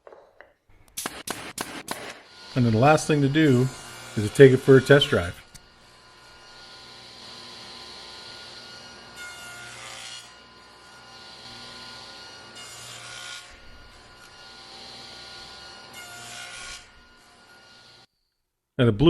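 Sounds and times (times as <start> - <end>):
saw blade cutting wood: 1.0 - 18.1
table saw humming: 1.0 - 18.1.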